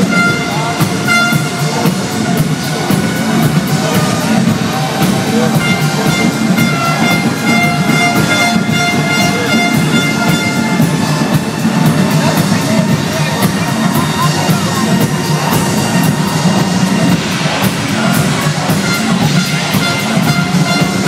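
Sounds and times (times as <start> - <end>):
drum kit beat: 0.0 - 21.0
held synth notes: 0.0 - 21.0
keyboards: 0.0 - 21.0
live rock band playing: 0.0 - 21.0.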